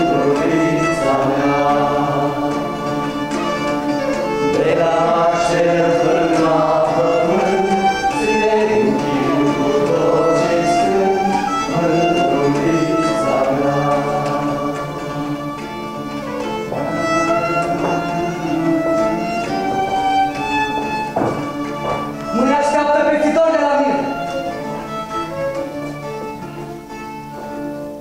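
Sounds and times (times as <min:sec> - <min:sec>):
violin and string music: 0:00.0 - 0:28.0.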